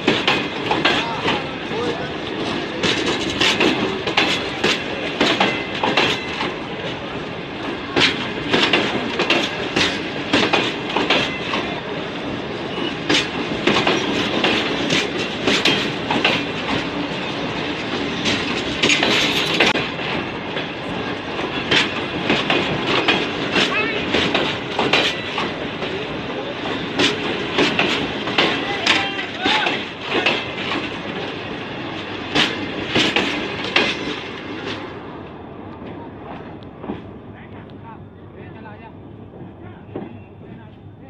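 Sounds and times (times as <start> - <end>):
wheels clacking over rail joints: 0.0 - 37.2
train running noise: 0.0 - 41.0.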